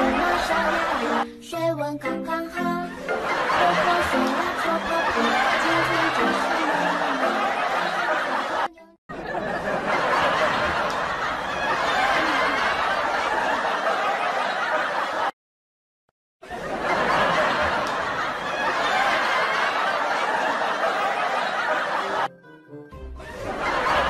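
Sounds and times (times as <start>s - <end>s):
crowd laughing: 0.0s - 1.4s, 2.8s - 15.4s, 16.4s - 22.4s, 23.1s - 24.0s.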